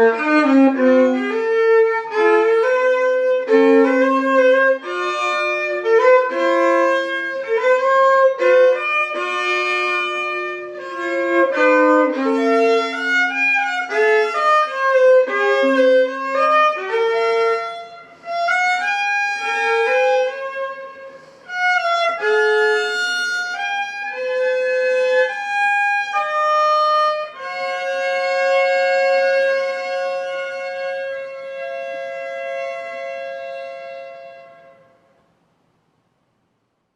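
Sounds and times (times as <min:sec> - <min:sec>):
violin melody: 0:00.0 - 0:34.9.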